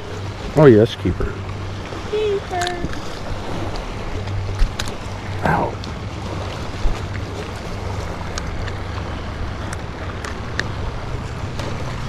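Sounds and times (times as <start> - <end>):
motorboat engine drone: 0.0 - 12.0.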